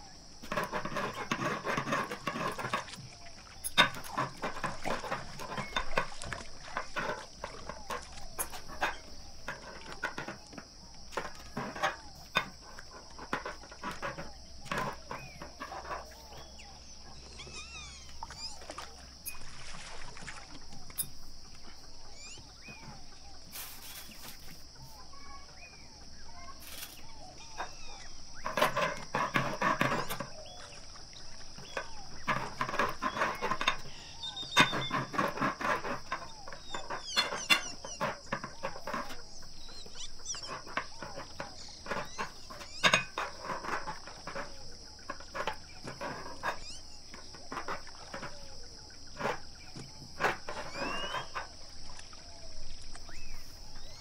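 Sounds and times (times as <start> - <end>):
rolling pin rolling dough: 0.0 - 18.6, 22.2 - 51.5.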